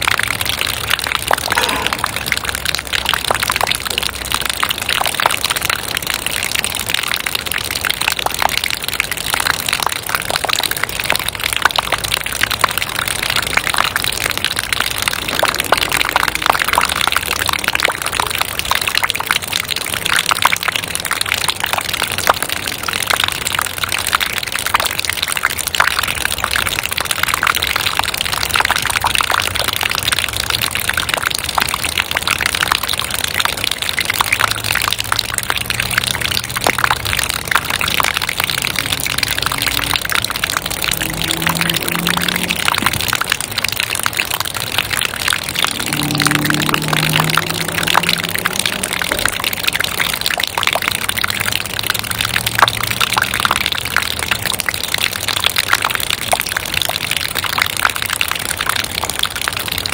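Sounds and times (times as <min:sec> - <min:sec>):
rain dripping: 0:00.0 - 0:59.9.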